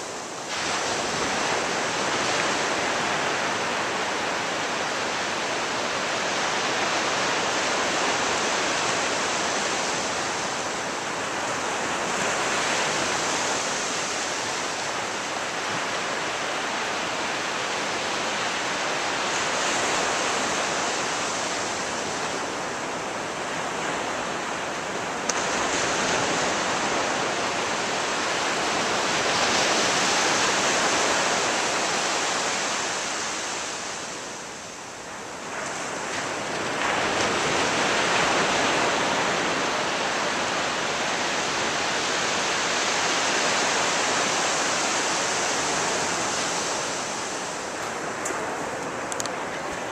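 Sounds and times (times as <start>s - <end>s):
surf breaking on beach: 0.0s - 49.9s.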